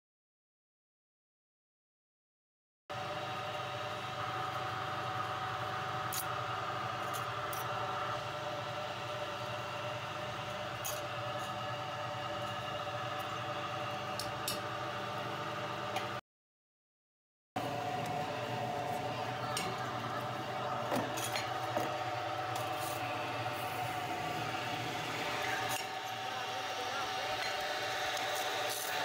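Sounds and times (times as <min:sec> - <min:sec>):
workshop machinery humming: 0:02.9 - 0:16.2, 0:17.6 - 0:29.0.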